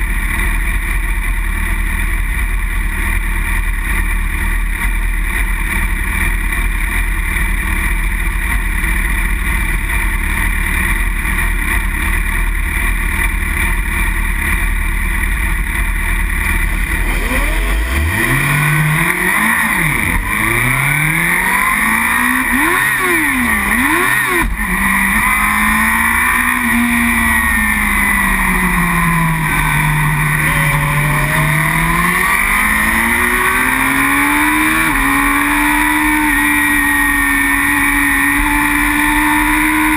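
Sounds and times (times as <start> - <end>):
many motorcycle engines: 0.0 - 39.9
motorcycle engine revving: 0.0 - 39.9.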